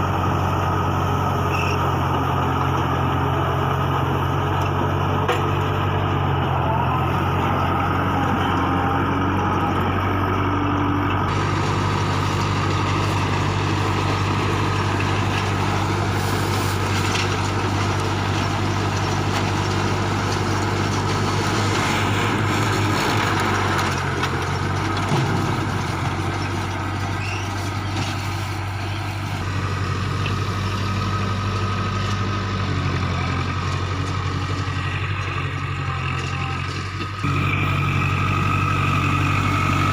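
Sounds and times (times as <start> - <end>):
baler machinery rushing noise: 0.0 - 35.8
tractor diesel engine running: 0.0 - 39.9.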